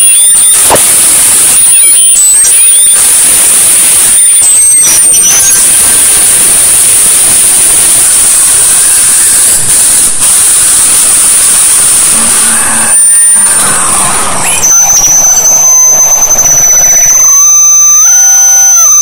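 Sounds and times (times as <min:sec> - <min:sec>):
harsh noise music static: 0:00.0 - 0:17.1.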